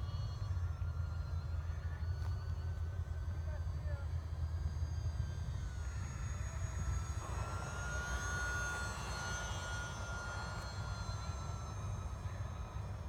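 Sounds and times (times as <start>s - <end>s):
model airplane motor whining: 0.0s - 13.0s.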